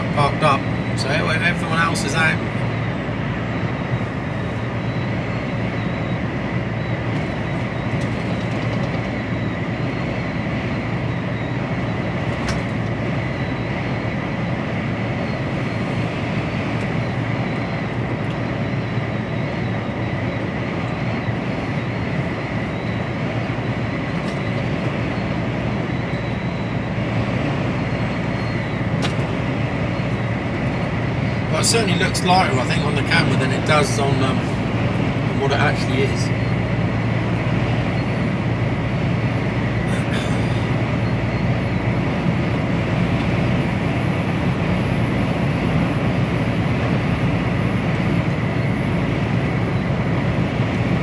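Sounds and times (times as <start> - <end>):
lorry engine and road rumble: 0.0 - 51.0.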